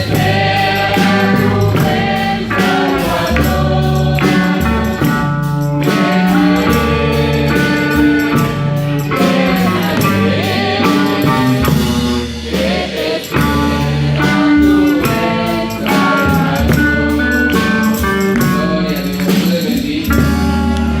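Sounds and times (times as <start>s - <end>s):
instrumental backing with bass and beat: 0.0s - 21.0s
men singing: 0.0s - 21.0s.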